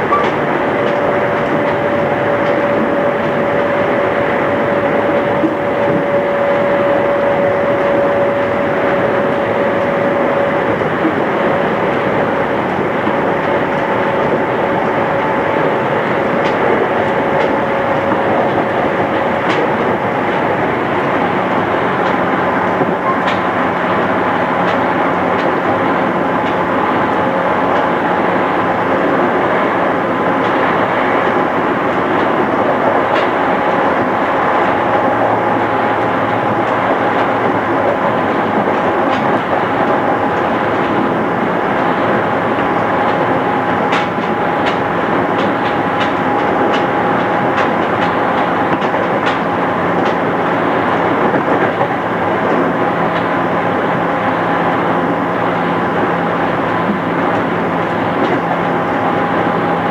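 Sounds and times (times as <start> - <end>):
rail-joint clicks: 0.0 - 59.9
train wheels rumbling: 0.0 - 59.9.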